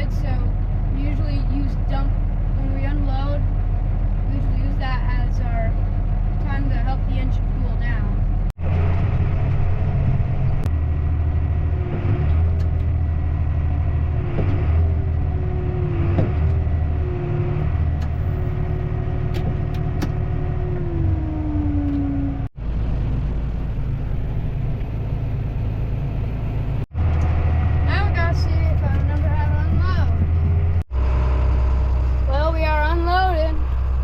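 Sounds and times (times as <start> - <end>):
diesel engine rumble in cab: 0.0 - 34.0
drivetrain whining: 0.0 - 34.0.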